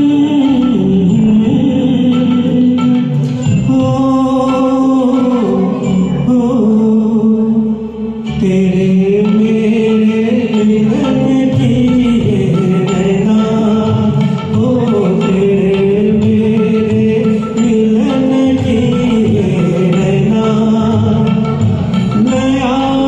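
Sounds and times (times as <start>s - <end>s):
karaoke backing track: 0.0s - 23.0s.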